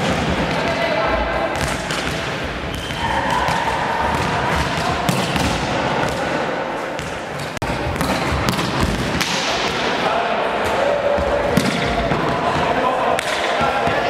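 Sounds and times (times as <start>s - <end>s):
volleyballs struck and bouncing: 1.5s - 10.0s, 10.6s - 14.0s.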